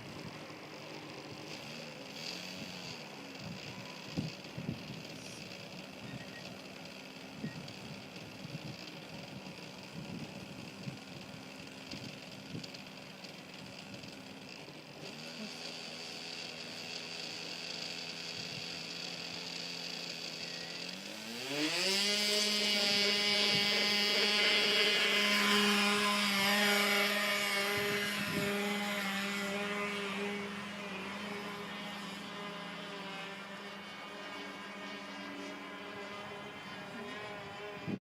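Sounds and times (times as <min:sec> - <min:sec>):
model airplane engine buzzing: 0:00.0 - 0:38.0.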